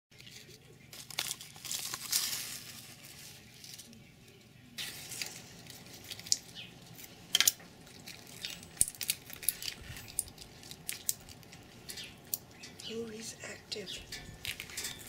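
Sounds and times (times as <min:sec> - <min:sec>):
rustling: 0:00.1 - 0:13.0, 0:14.0 - 0:15.0.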